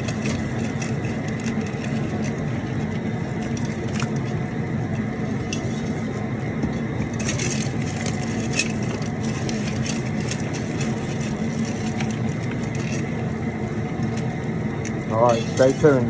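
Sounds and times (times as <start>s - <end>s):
gas burner rushing: 0.0s - 16.0s.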